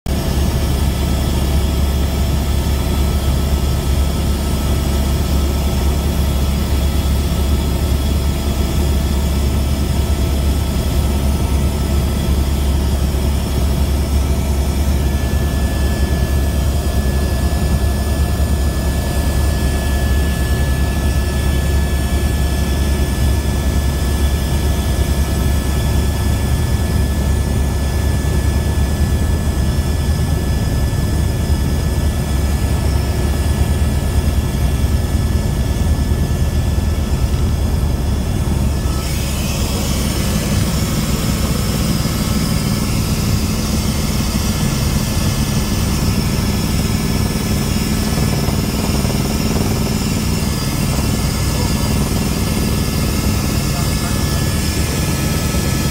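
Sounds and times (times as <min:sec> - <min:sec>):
aircraft engines droning: 0:00.1 - 0:55.9.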